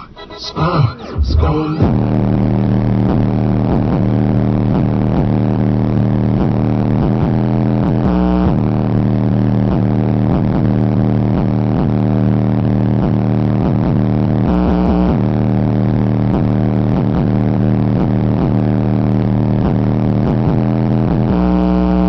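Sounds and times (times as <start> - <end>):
subwoofer playing hip-hop beat: 0.0 - 22.0.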